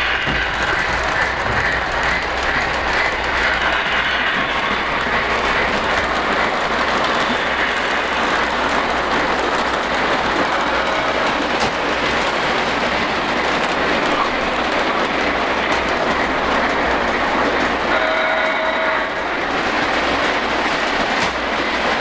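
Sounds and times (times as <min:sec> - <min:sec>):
model train wheels clattering: 0:00.0 - 0:22.0.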